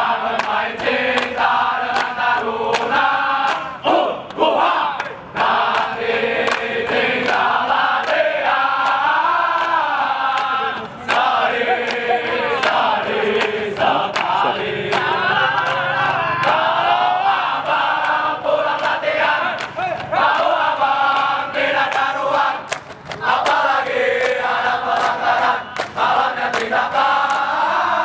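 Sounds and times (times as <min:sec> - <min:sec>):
men chanting a song in unison: 0:00.0 - 0:28.0.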